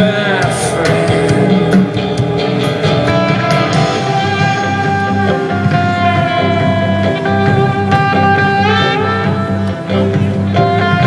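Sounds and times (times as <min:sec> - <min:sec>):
drum beat: 0:00.0 - 0:11.0
sustained electric guitar notes: 0:00.0 - 0:11.0.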